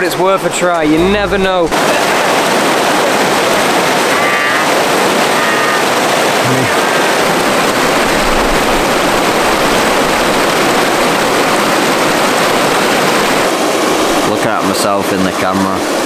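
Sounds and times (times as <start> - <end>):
water rushing over weir: 0.0 - 16.0.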